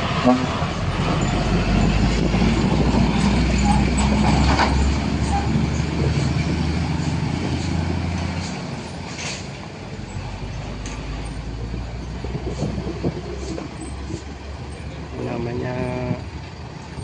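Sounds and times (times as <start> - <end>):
heavy vehicle engine droning: 0.0 - 17.0
traffic noise: 0.0 - 17.0.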